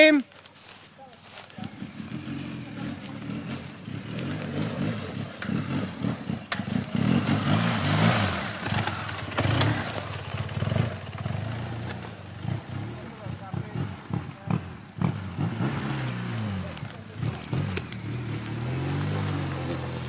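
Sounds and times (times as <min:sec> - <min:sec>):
motorcycle engine revving: 0:01.0 - 0:20.0.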